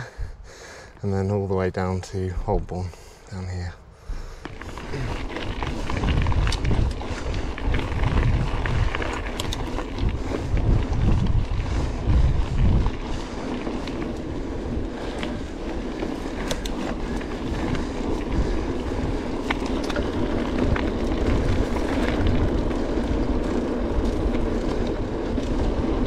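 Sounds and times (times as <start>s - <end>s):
bike tyres rumbling on gravel: 0.0s - 26.0s
bike clicks and rattles: 4.0s - 26.0s.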